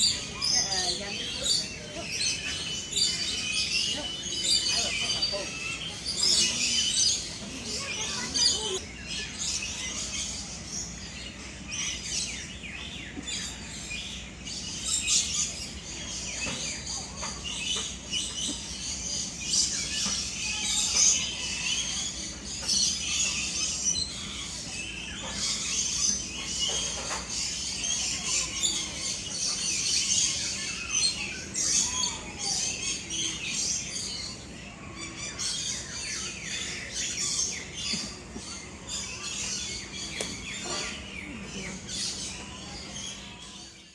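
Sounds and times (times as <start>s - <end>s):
chorus of birds chirping: 0.0s - 43.9s.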